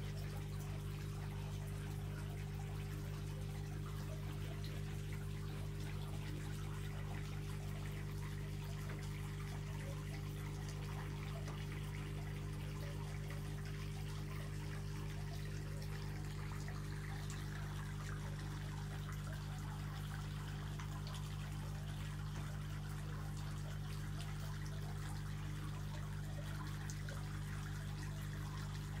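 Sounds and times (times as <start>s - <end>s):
steady low hum: 0.0s - 29.0s
trickling water-like hiss: 0.0s - 29.0s.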